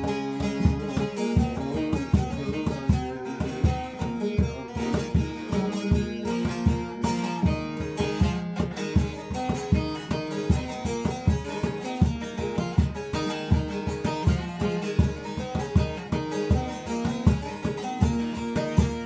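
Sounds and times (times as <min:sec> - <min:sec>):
plucked string instruments: 0:00.0 - 0:19.0
steady low beat: 0:00.0 - 0:19.0.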